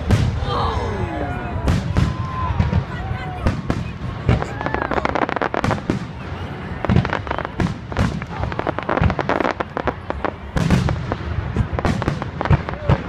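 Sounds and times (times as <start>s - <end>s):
fireworks booms: 0.0s - 0.6s, 1.6s - 13.0s
fireworks crackling pops: 1.6s - 13.0s.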